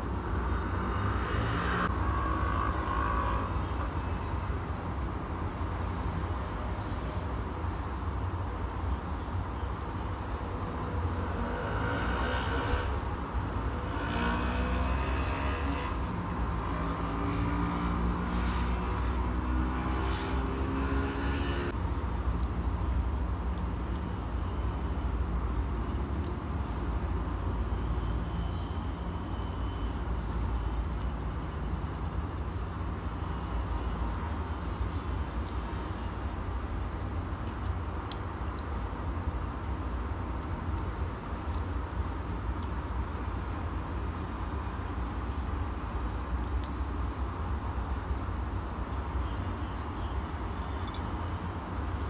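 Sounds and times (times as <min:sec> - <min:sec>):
city background rumble: 0:00.0 - 0:52.0.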